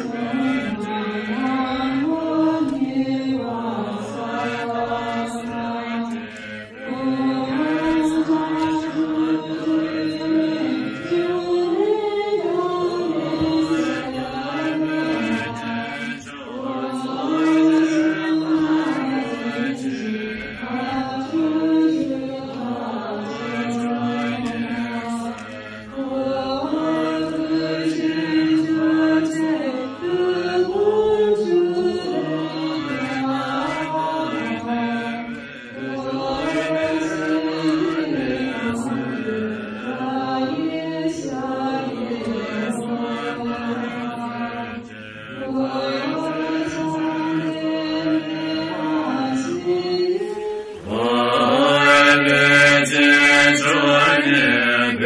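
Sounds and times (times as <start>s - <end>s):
group chanting prayer: 0.0s - 55.0s.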